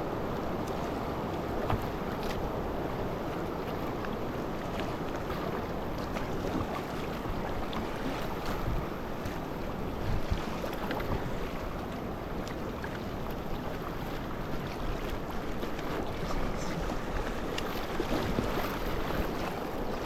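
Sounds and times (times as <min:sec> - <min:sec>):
river water rushing and splashing: 0:00.0 - 0:20.0.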